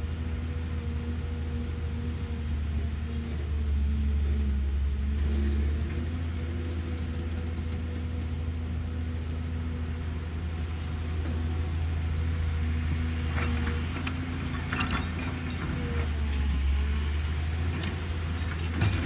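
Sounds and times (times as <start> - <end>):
excavator diesel engine running: 0.1 - 19.0.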